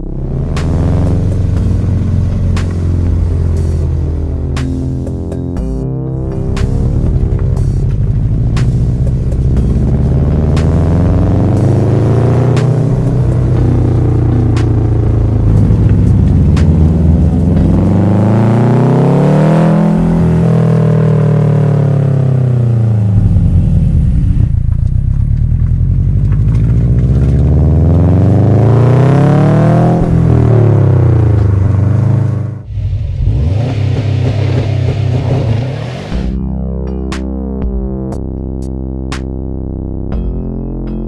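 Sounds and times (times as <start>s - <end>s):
car engine revving: 0.0s - 36.4s.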